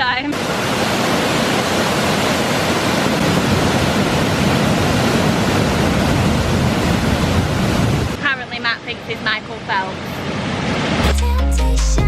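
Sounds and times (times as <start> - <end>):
waterfall and river rushing: 0.1 - 11.2.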